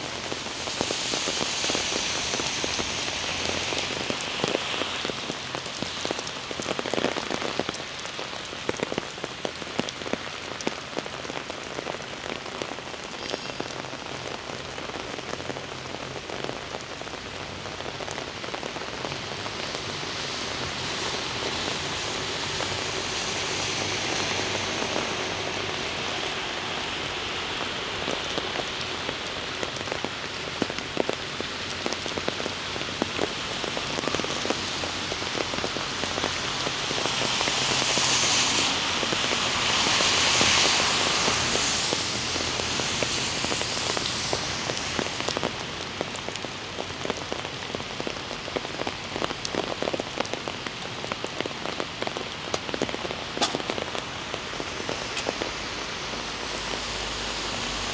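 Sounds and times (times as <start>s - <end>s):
heavy rain on a street: 0.0s - 57.9s.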